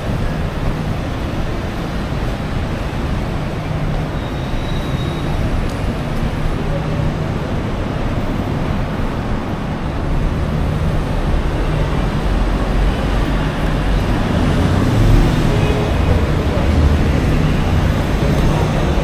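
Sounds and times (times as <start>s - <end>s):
large vehicle engine rumble: 0.0s - 19.0s
passing vehicles: 0.0s - 19.0s.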